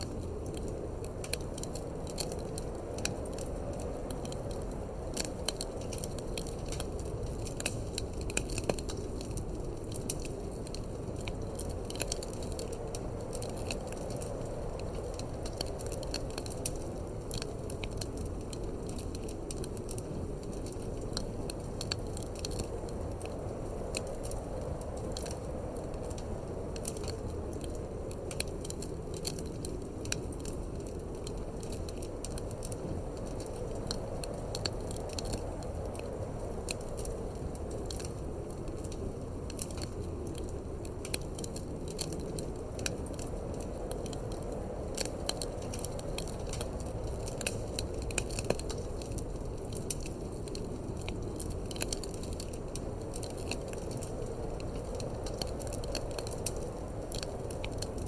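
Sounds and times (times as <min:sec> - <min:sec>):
low rush of wind: 0:00.0 - 0:58.0
wood fire crackling and popping: 0:00.0 - 0:58.0.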